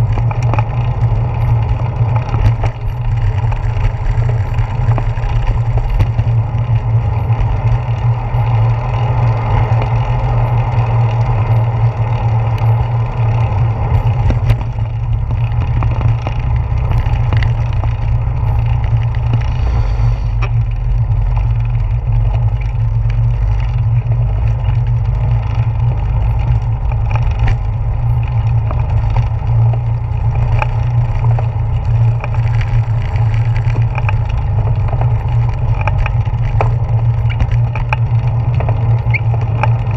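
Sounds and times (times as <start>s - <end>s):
bicycle rolling: 0.0s - 39.9s
wind rumble on microphone: 0.0s - 39.9s.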